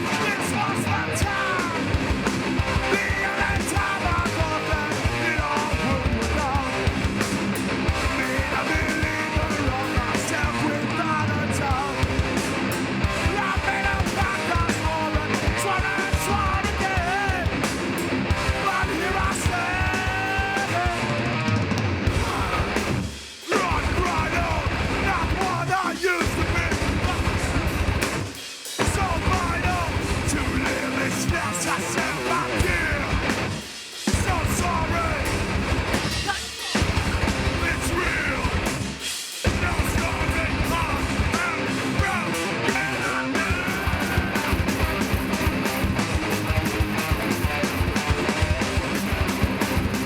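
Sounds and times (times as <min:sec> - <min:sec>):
shouted vocals: 0:00.0 - 0:06.9, 0:13.1 - 0:17.6, 0:18.3 - 0:27.8, 0:28.8 - 0:33.4, 0:34.2 - 0:38.9, 0:39.5 - 0:50.0
distorted electric guitars: 0:00.0 - 0:50.0
pounding drums: 0:01.2 - 0:10.7, 0:11.7 - 0:21.2, 0:22.1 - 0:50.0.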